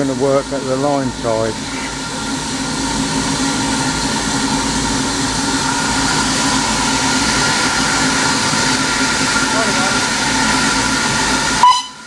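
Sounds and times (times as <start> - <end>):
train rumble and hiss: 0.0 - 12.0.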